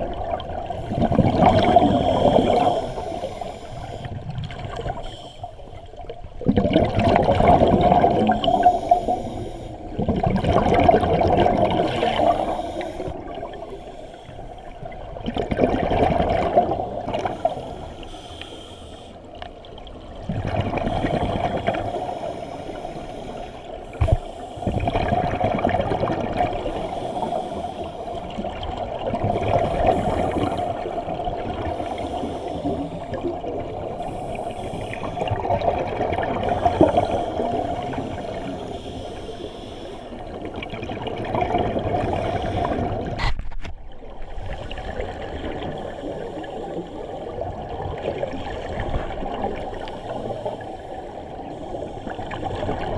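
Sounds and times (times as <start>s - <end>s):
underwater air bubbling: 0.0s - 52.9s.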